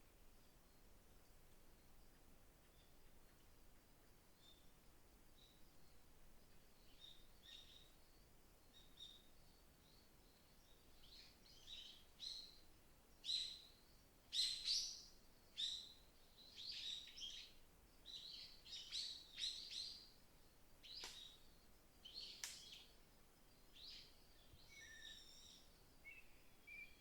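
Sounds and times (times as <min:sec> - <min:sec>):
faint wind hiss: 0:00.0 - 0:27.0
songbirds chirping: 0:00.2 - 0:27.0.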